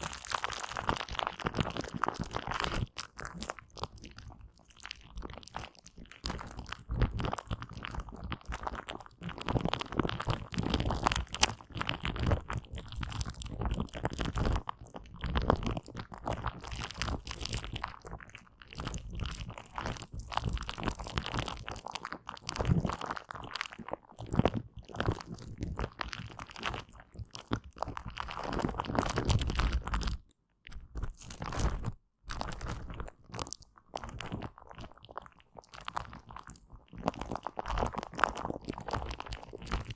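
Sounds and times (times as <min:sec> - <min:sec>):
sticky gel crackling: 0:00.0 - 0:39.9.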